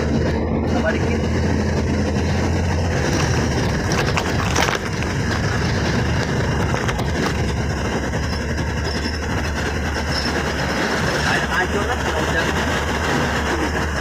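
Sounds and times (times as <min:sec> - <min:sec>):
engine and tyre noise: 0:00.0 - 0:14.0
wheels knocking on rough road: 0:01.2 - 0:14.0.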